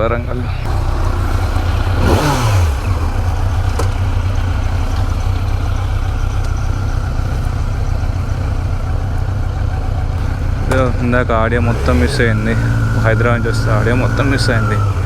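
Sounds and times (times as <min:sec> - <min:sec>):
motorcycle engine revving and rumbling: 0:00.0 - 0:15.0.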